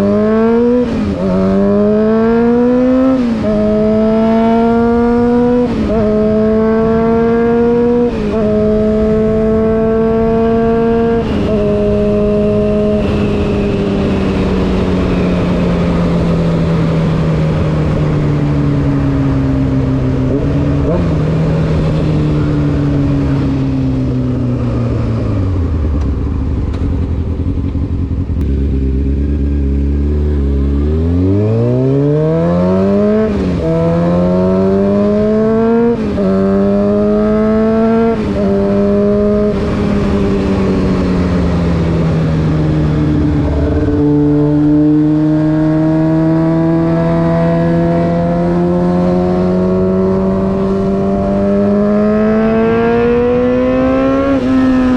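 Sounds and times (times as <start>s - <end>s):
motorcycle engine revving and shifting: 0.0s - 54.9s.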